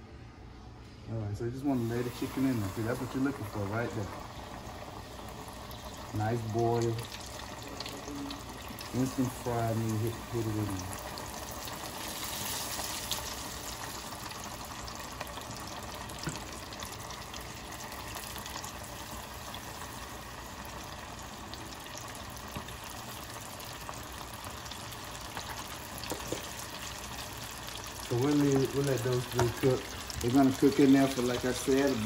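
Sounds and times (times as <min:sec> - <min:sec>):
chicken deep-frying in oil: 0:01.6 - 0:32.0.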